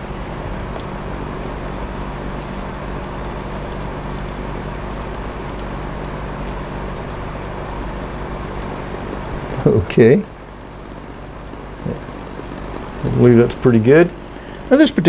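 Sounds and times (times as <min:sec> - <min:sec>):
torch flame hissing: 0:00.0 - 0:14.8
low steady hum: 0:00.0 - 0:15.0.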